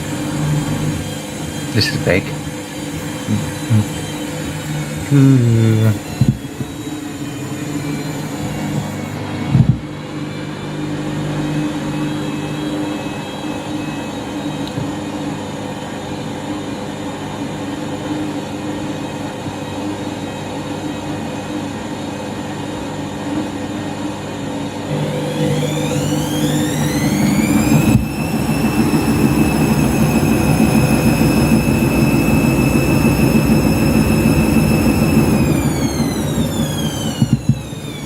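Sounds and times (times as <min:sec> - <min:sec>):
high whine: 0:00.0 - 0:19.1, 0:24.1 - 0:38.0
washing machine spinning: 0:00.0 - 0:38.0.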